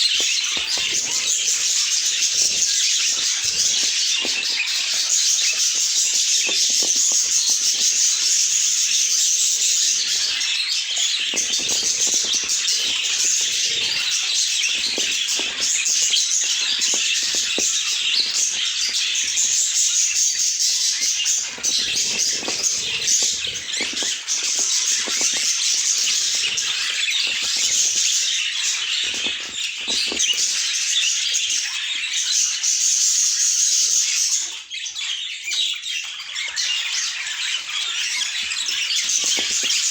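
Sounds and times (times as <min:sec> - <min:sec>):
budgerigars chattering: 0:00.0 - 0:34.7, 0:35.6 - 0:39.9.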